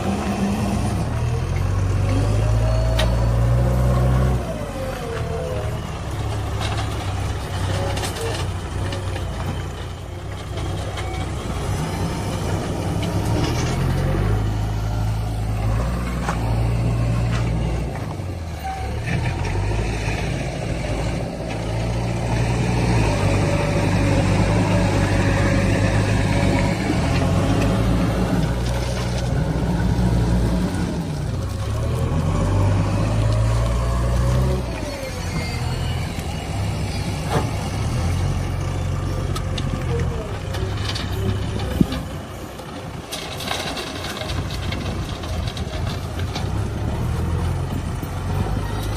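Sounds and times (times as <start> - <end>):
heavy diesel engine revving: 0.0 - 9.6, 10.5 - 48.9.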